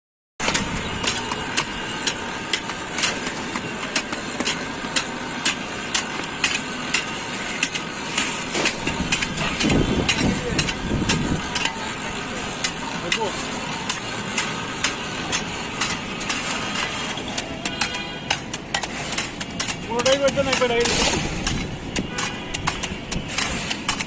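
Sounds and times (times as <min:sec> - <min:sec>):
engine running: 0:00.4 - 0:24.0.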